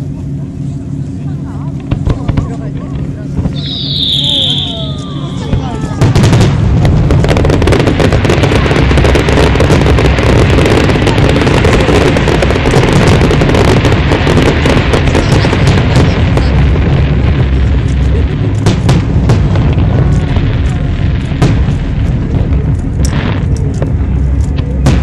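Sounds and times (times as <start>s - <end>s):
continuous low rumble: 0.0s - 25.0s
firework pops and crackle: 1.8s - 25.0s
firework shells booming: 1.8s - 25.0s.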